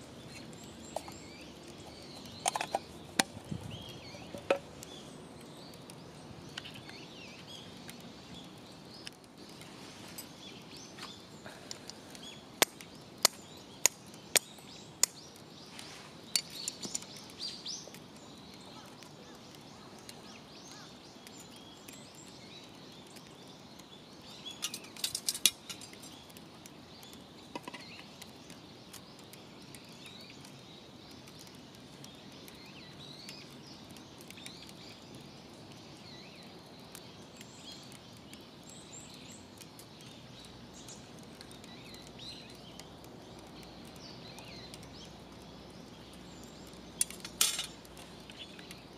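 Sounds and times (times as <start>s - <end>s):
birds chirping faintly: 0.0s - 48.9s
steady hiss: 0.0s - 48.9s.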